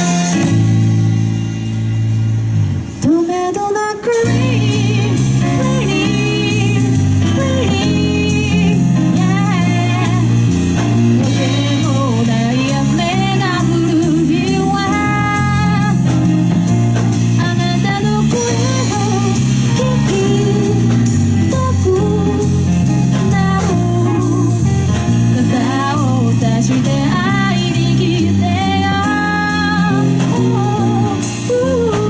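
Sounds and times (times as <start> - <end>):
live band playing slow song: 0.0 - 32.0
person singing with vibrato: 3.0 - 16.1, 17.3 - 32.0.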